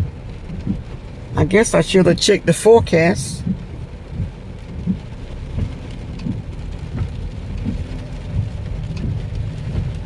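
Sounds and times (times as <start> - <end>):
dull thumps of rain: 0.0 - 2.2, 2.8 - 10.0
heavy rain on a car: 0.0 - 10.0.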